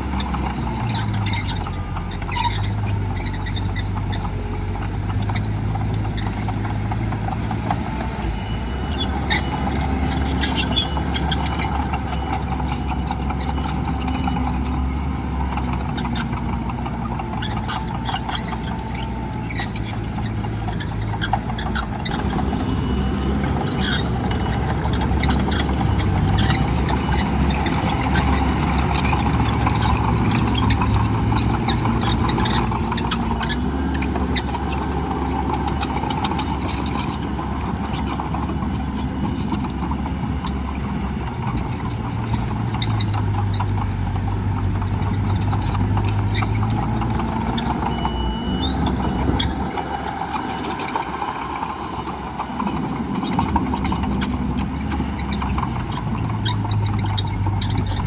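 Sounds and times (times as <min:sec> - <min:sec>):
heavy diesel machinery engines: 0:00.0 - 0:58.0.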